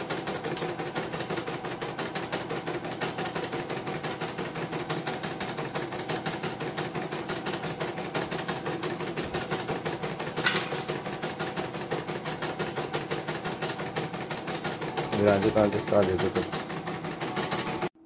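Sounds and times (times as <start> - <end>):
embroidery machine stitching: 0.0 - 17.9.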